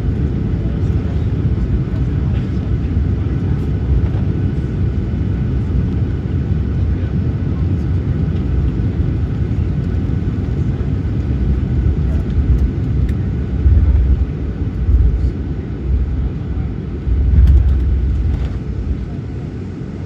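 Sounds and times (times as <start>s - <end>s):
aircraft cabin engine rumble: 0.0s - 20.0s.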